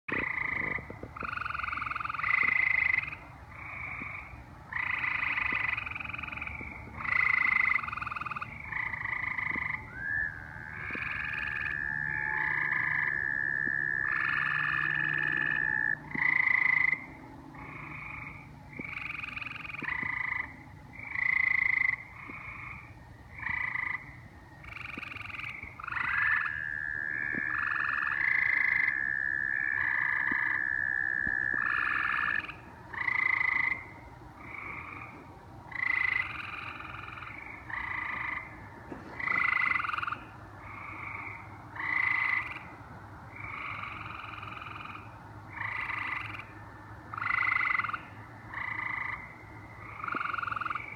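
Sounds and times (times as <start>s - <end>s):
toads trilling: 0.1s - 50.9s
tree frogs calling: 0.1s - 50.9s.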